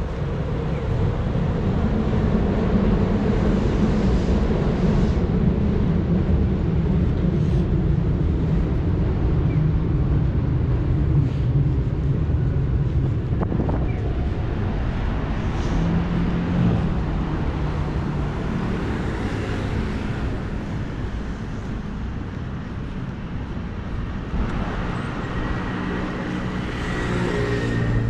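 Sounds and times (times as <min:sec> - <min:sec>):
road noise hum: 0:00.0 - 0:28.0.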